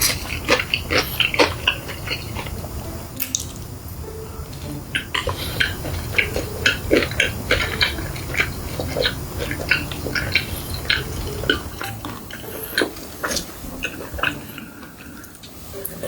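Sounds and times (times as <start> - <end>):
chewing food with wet smacking: 0.0 - 3.7, 4.5 - 16.0.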